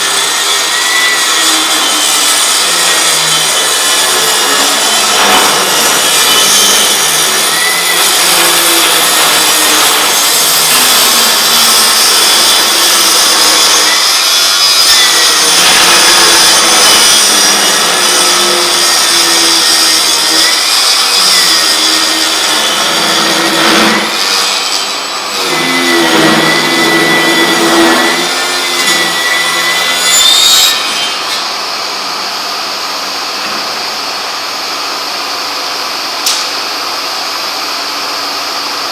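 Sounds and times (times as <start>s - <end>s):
table saw cutting wood: 0.0s - 36.9s.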